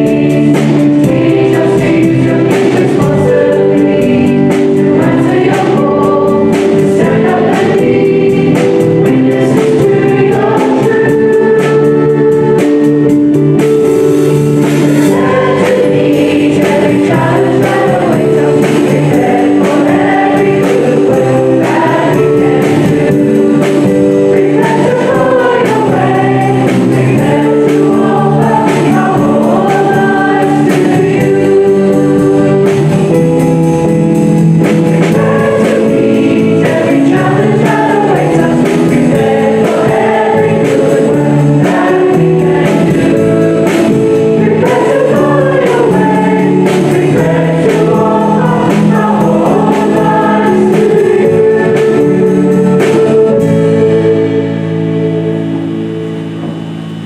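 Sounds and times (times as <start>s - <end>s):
choir and congregation singing a hymn: 0.0s - 57.0s.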